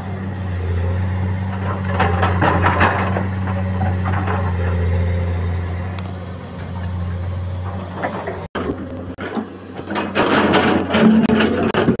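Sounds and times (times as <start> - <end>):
diesel engine humming: 0.0 - 9.7
excavator clattering: 0.0 - 12.0.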